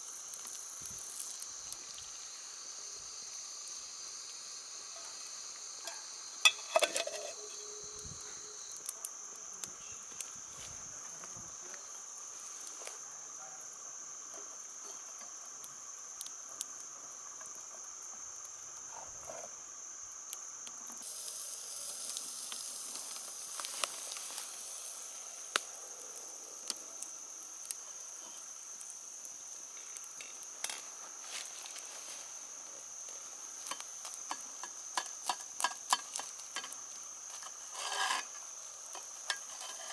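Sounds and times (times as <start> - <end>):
insect chirring: 0.0 - 39.9.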